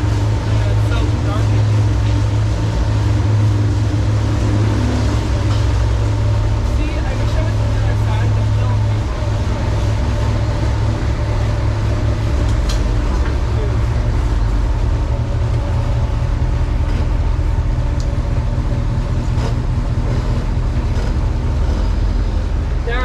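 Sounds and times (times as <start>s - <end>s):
jeep engine running: 0.0s - 23.0s.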